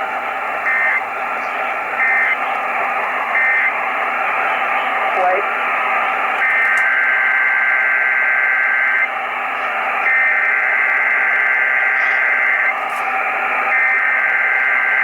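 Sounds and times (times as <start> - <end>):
radio hiss: 0.0 - 15.0.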